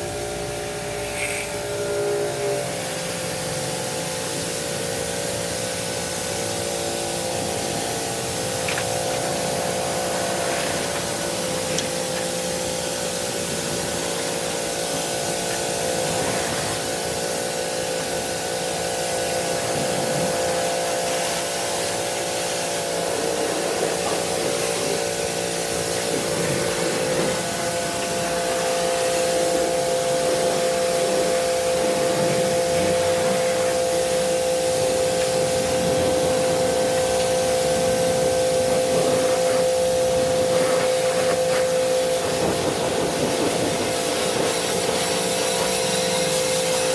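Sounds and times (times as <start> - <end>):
hissing water jet: 0.0 - 46.9
pressure washer motor hum: 0.0 - 46.9.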